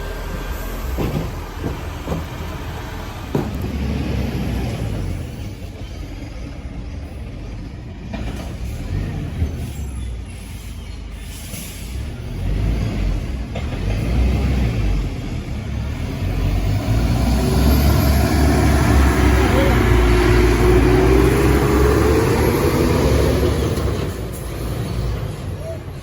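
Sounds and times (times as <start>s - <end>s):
garbage truck engine rumbling: 0.0s - 26.0s.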